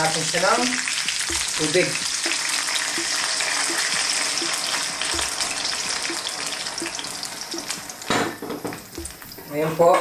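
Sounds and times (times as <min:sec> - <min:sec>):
water sizzling in hot wok: 0:00.0 - 0:10.0.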